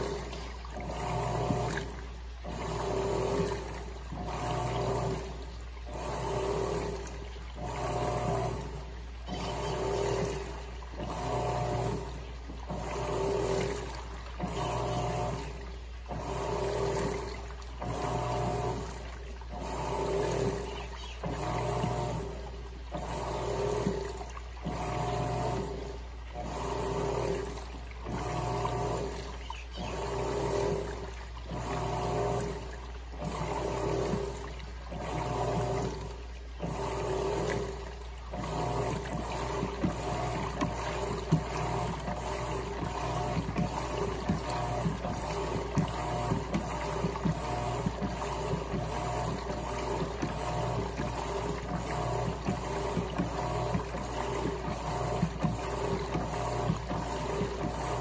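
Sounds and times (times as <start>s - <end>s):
low motor hum: 0.0s - 58.0s
washing machine agitating: 0.0s - 58.0s.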